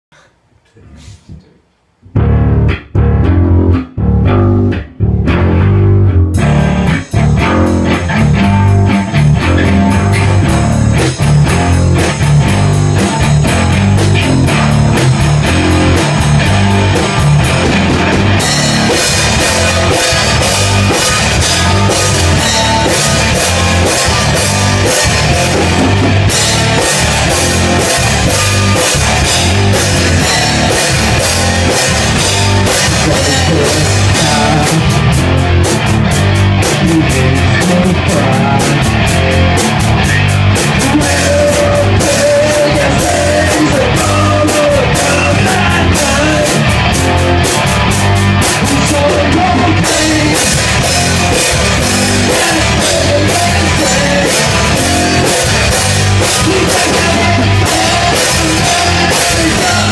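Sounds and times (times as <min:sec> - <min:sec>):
bass and guitar riff: 0:02.0 - 0:59.9
drums and cymbals: 0:06.4 - 0:59.9.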